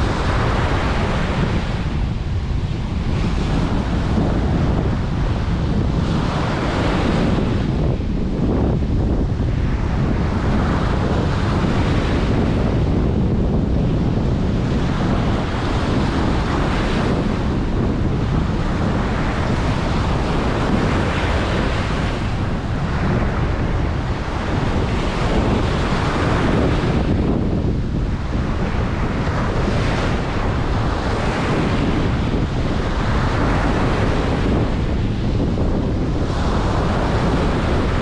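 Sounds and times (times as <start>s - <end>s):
ocean surf breaking: 0.0s - 38.0s
wind on microphone: 0.0s - 38.0s.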